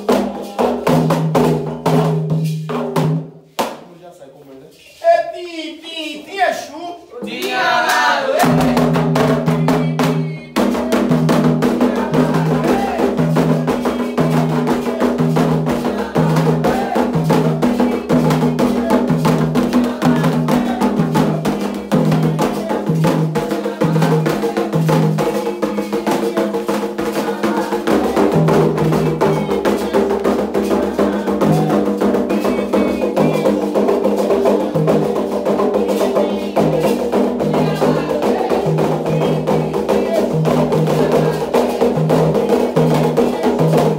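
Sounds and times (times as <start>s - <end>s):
hand drums beating fast rhythm: 0.0s - 3.8s, 7.2s - 43.9s.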